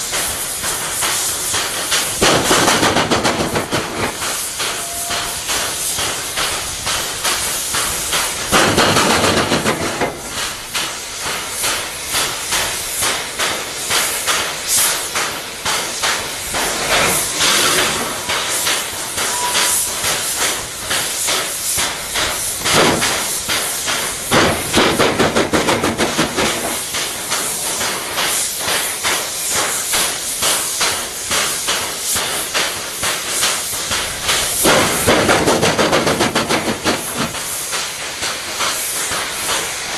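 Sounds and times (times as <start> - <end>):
pulsing steam beats: 0.0 - 39.9
steam hissing from locomotive: 0.0 - 39.9.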